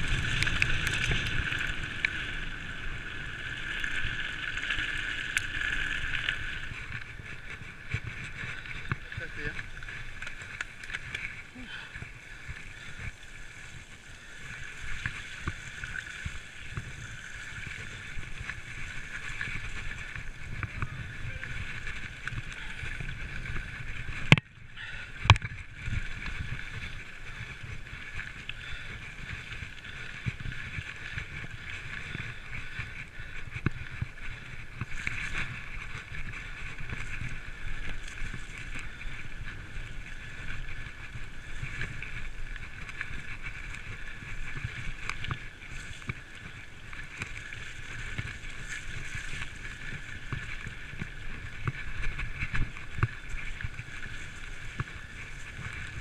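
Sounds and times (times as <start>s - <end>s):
mountain bike riding over rough track: 0.0s - 56.0s
wind on microphone: 5.9s - 56.0s.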